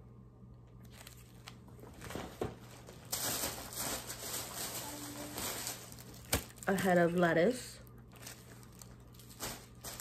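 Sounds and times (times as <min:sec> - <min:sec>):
plastic bag rustling: 0:00.8 - 0:10.0.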